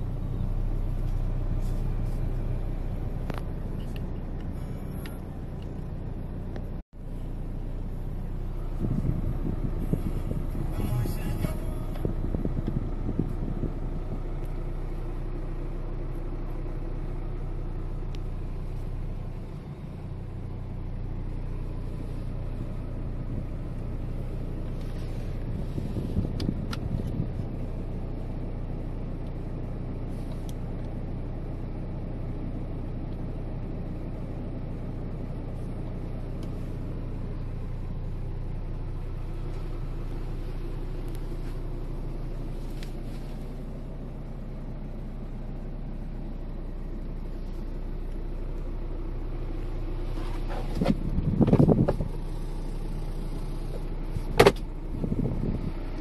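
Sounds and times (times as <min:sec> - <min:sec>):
car engine idling from inside: 0:00.0 - 0:56.0.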